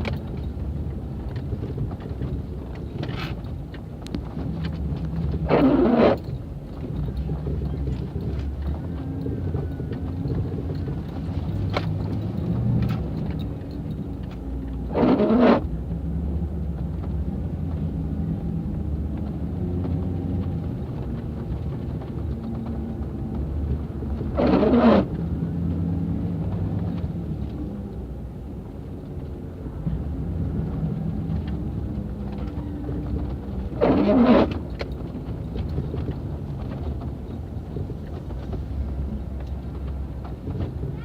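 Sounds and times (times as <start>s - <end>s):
vehicle engine rumble: 0.0s - 41.0s.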